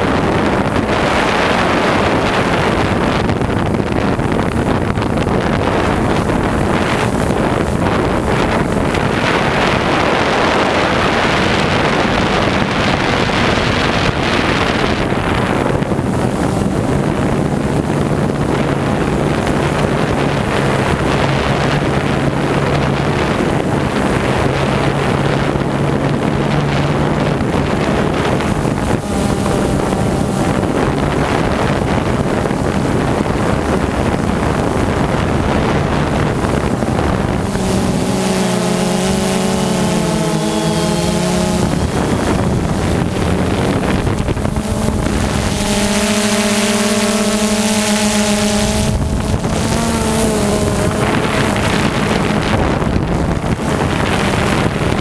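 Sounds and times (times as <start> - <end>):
drone motors humming: 0.0 - 55.0
wind noise on microphone: 0.0 - 55.0.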